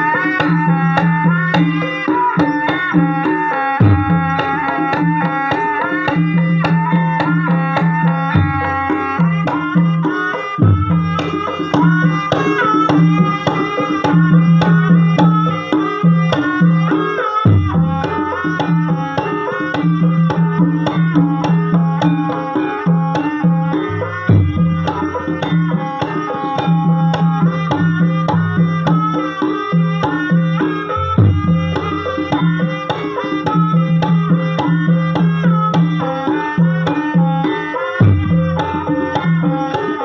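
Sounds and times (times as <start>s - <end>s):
hand drum strokes: 0.0s - 40.0s
struck pitched percussion melody: 0.0s - 40.0s.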